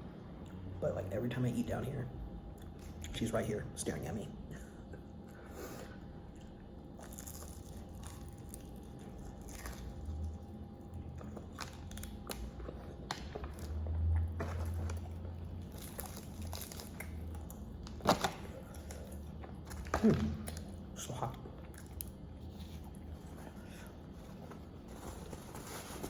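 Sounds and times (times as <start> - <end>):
chewing fried chicken: 4.5 - 25.4.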